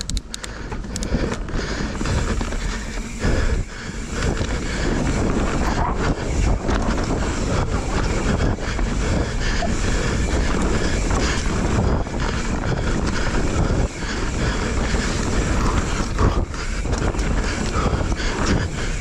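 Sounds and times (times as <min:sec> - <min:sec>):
bike knocking and rattling: 0:00.0 - 0:19.0
bike tyres rumbling on dirt: 0:00.0 - 0:19.0
wind buffeting microphone: 0:00.0 - 0:19.0.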